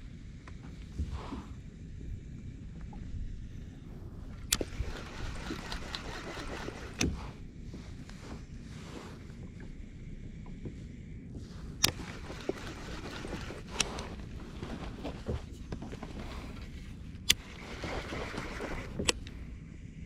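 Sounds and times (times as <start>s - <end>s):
water lapping against hull: 0.4s - 19.6s.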